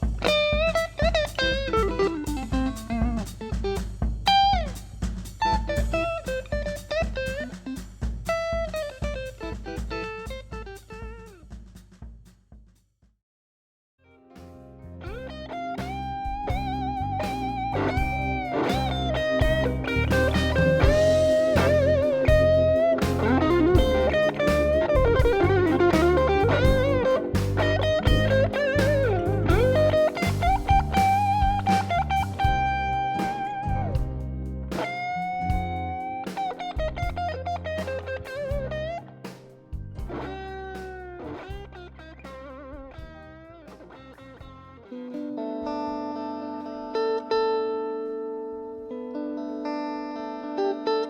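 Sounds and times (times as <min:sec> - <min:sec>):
electric guitar lead line: 0:00.2 - 0:04.7, 0:14.1 - 0:51.0.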